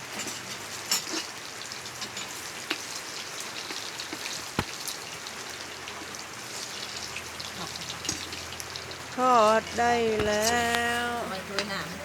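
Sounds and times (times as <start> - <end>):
rain pattering with drips: 0.0 - 12.0.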